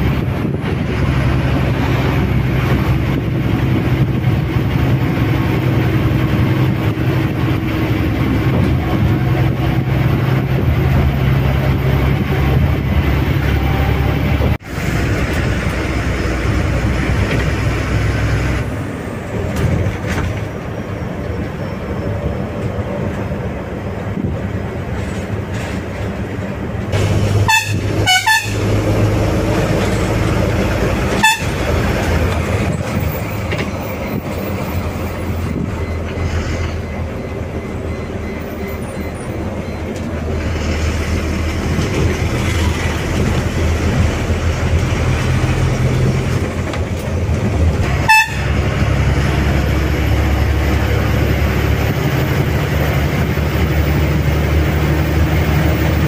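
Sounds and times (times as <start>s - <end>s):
bus diesel engine running: 0.0s - 56.0s
road noise: 0.0s - 56.0s.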